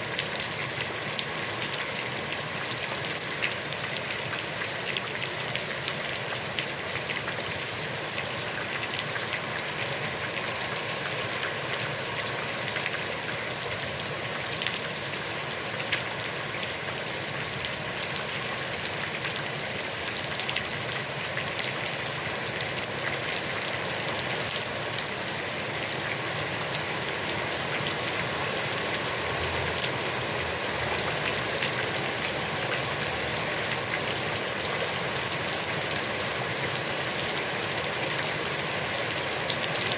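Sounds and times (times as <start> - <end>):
heavy rain on a pond: 0.0 - 39.9.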